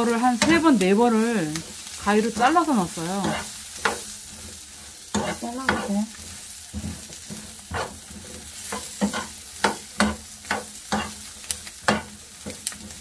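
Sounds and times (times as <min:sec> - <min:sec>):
food sizzling in oil: 0:00.0 - 0:13.0
metal spoon scraping a pan: 0:00.0 - 0:13.0.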